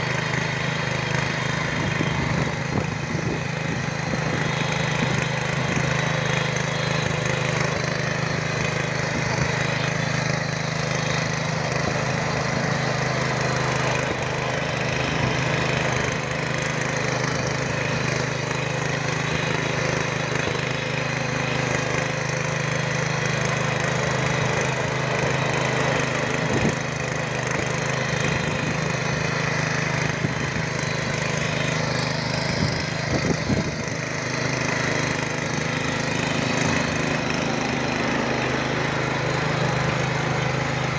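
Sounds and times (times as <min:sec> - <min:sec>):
tiller engine droning: 0:00.0 - 0:40.9
tines churning soil: 0:00.0 - 0:40.9.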